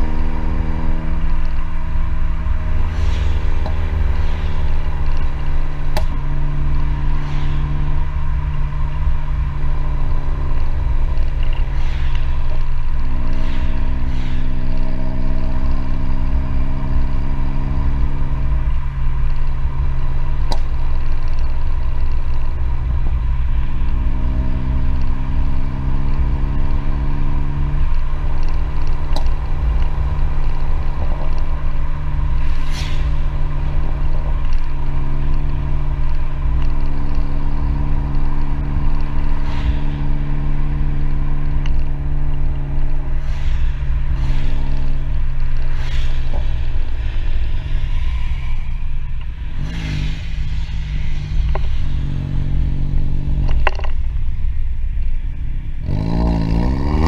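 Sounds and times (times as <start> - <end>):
engine and exhaust running: 0.0 - 57.0
road rumble: 0.0 - 57.0.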